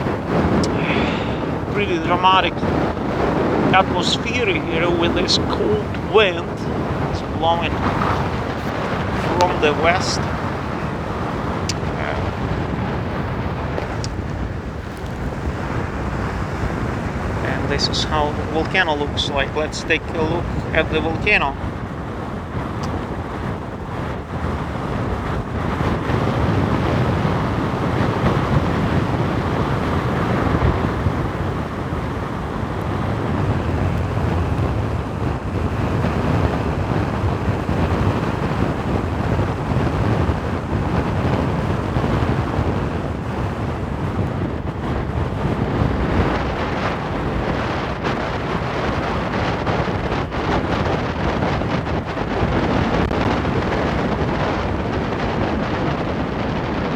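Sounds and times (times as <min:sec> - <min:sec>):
wind on microphone: 0:00.0 - 0:56.9.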